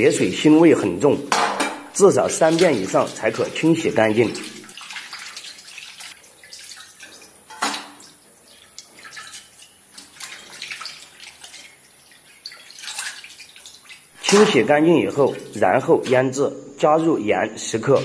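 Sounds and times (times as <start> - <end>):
water sloshing and splashing in bowl: 0.0 - 16.4.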